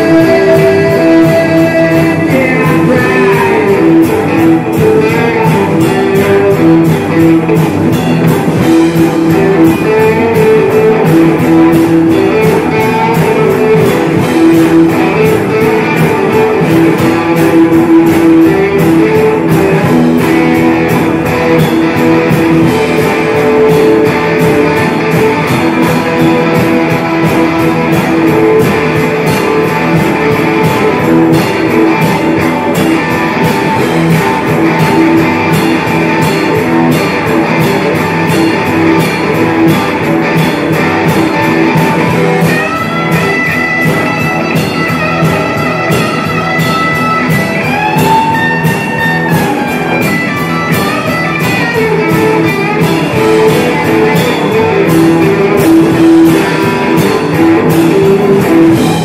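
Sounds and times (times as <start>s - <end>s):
electric guitars strumming: 0.0s - 59.0s
rock band playing live: 0.0s - 59.0s
steady drumbeat: 0.0s - 59.0s.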